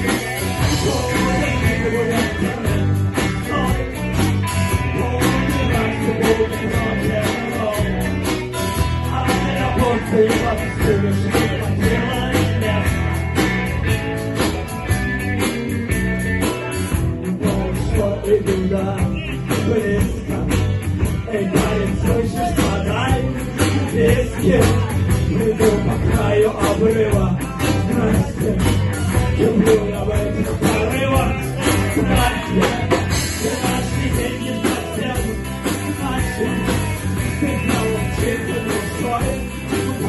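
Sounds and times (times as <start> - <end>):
person singing: 0.0 - 13.2, 17.2 - 40.0
blues rock band playing: 0.0 - 40.0
drum beat: 0.0 - 40.0.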